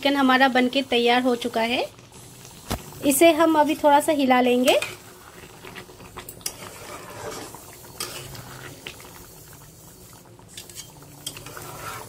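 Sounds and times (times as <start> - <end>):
curry bubbling: 0.0 - 12.0.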